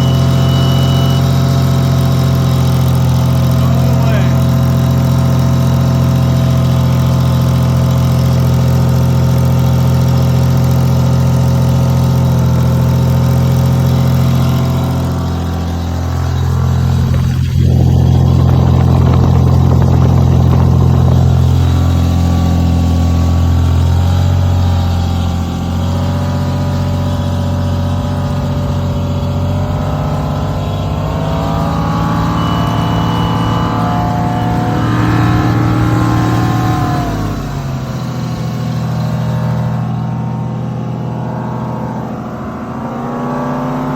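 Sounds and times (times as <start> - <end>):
generator engine running: 0.0 - 41.2.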